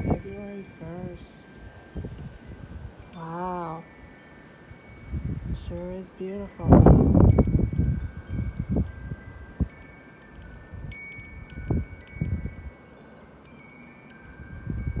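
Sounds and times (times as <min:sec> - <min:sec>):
wind chimes ringing: 0:00.0 - 0:15.0
wind gusts on microphone: 0:00.0 - 0:15.0.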